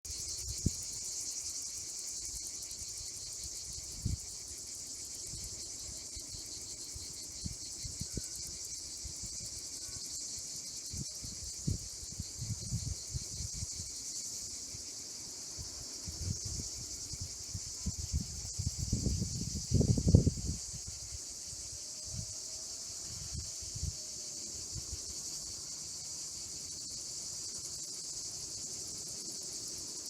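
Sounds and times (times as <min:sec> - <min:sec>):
insects chirring: 0:00.1 - 0:30.0.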